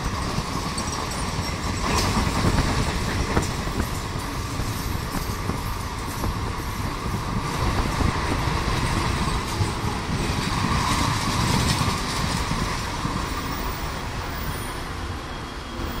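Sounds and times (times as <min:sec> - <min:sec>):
trains rumbling on rails: 0:00.0 - 0:16.0.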